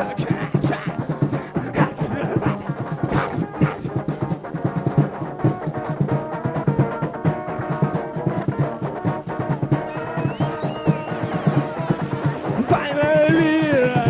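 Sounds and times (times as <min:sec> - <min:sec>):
fast drum beat: 0:00.0 - 0:14.0
punk band playing: 0:00.0 - 0:14.0.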